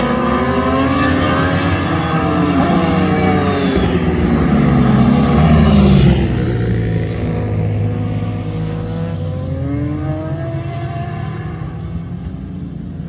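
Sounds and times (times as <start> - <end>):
motorcycle engines shifting gears: 0.0 - 13.0.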